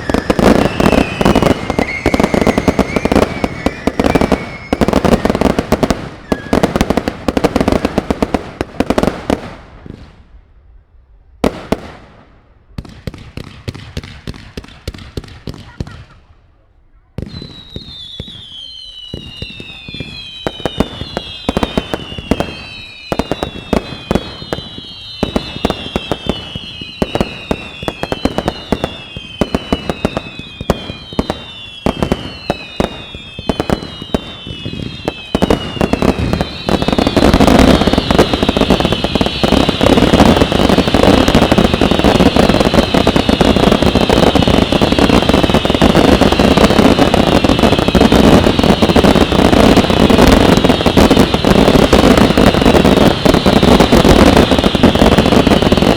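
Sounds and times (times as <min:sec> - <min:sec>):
firework whistles falling in pitch: 0:00.0 - 0:07.6, 0:17.2 - 0:55.9
firework cracks and bangs: 0:00.0 - 0:16.3, 0:17.2 - 0:55.9.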